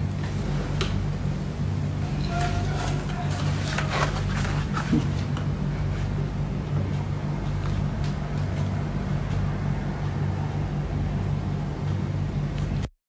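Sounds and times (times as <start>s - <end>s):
machine hum with hiss: 0.0s - 12.9s.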